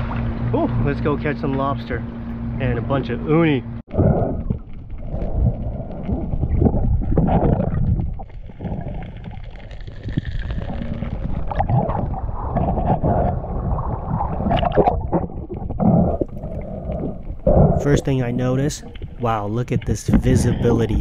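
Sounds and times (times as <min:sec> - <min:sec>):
muffled underwater water churning: 0:00.0 - 0:03.0, 0:03.7 - 0:21.0.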